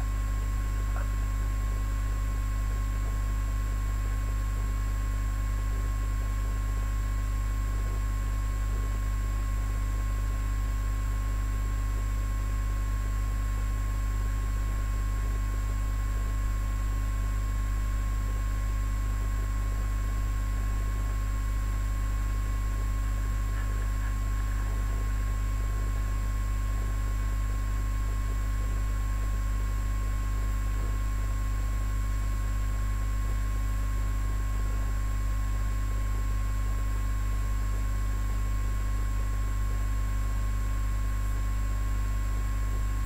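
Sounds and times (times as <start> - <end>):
electrical hum and hiss: 0.0 - 43.0.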